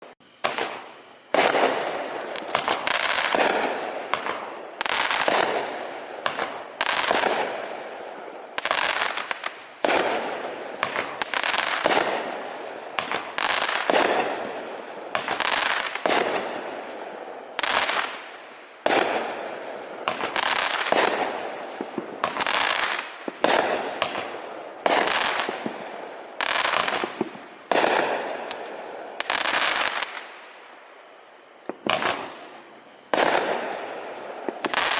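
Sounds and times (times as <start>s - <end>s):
crackling firework stars: 0.0s - 34.9s
firework aerial bursts: 0.0s - 34.9s.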